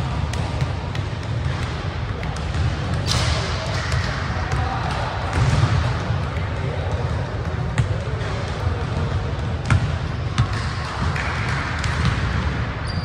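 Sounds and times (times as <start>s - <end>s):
sports hall low rumble: 0.0s - 13.0s.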